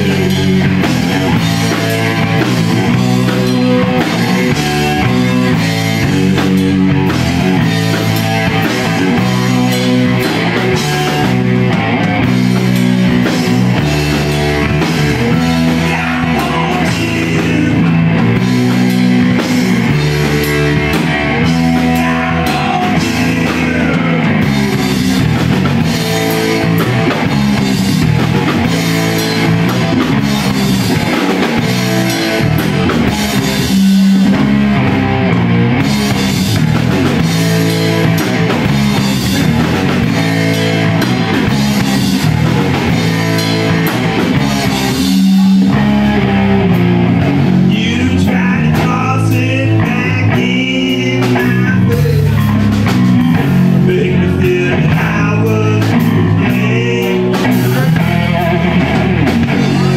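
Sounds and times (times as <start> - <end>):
bass guitar: 0.0 - 59.9
drum kit: 0.0 - 59.9
electric guitar riff: 0.0 - 59.9.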